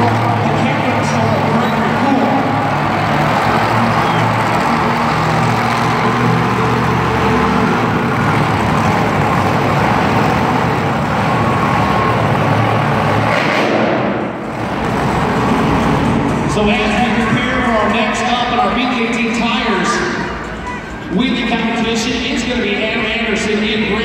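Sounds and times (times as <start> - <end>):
heavy truck engine running: 0.0 - 24.0.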